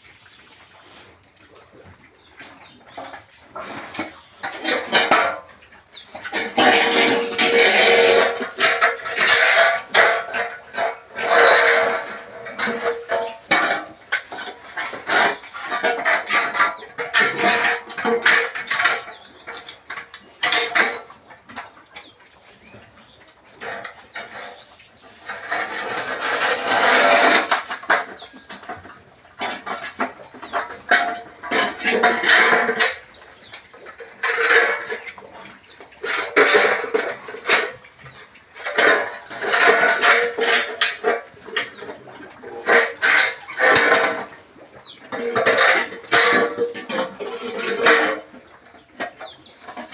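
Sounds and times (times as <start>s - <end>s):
clattering in livestock pen: 0.0s - 49.9s.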